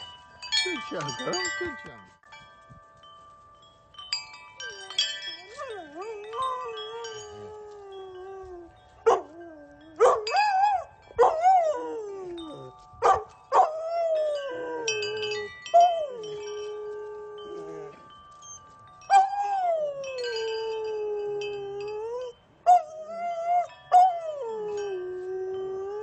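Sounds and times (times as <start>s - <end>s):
metal wind chimes ringing: 0.0s - 26.0s.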